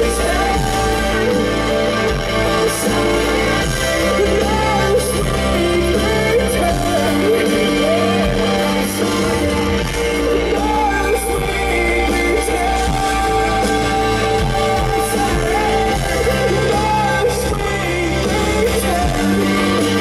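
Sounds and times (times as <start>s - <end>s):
live rock band playing: 0.0s - 20.0s
man singing: 0.0s - 20.0s.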